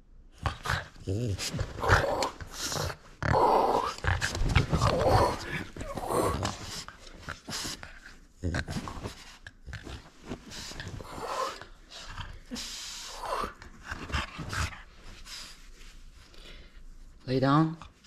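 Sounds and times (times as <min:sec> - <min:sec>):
dog noisy breathing and throat sounds: 0:00.3 - 0:17.2.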